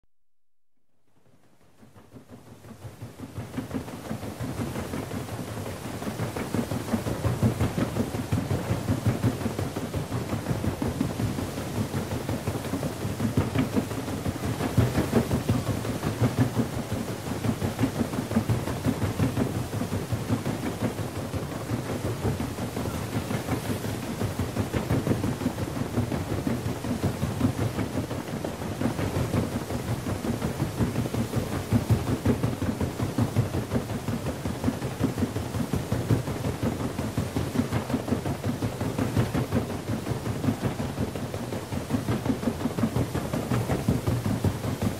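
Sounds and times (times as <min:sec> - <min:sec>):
paddle wheels churning water: 0:01.5 - 0:44.9.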